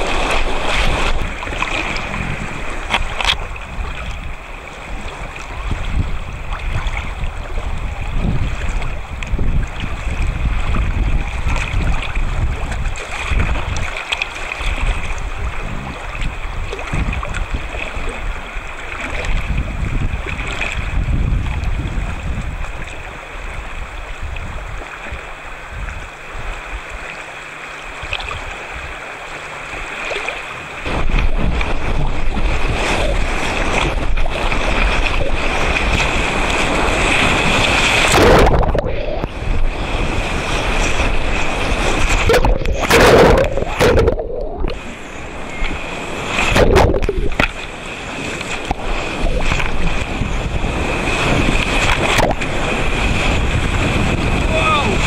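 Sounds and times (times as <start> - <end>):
heavy water splashes: 0.0 - 55.0.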